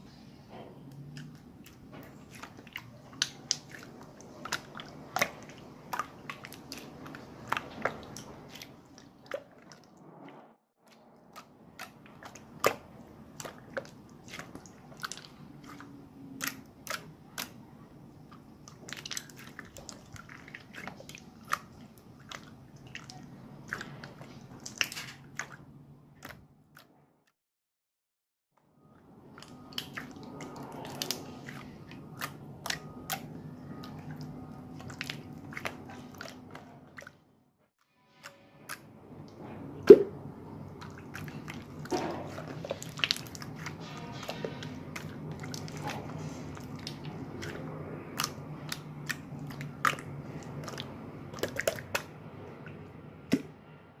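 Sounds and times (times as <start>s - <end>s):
slime squishing with wet pops: 0.9s - 10.0s, 10.9s - 26.9s, 28.8s - 37.2s, 38.7s - 53.6s.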